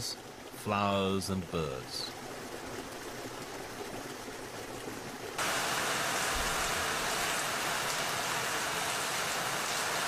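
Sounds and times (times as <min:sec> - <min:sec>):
hissy rush of water: 0:00.0 - 0:10.0
stream water running: 0:00.0 - 0:10.0.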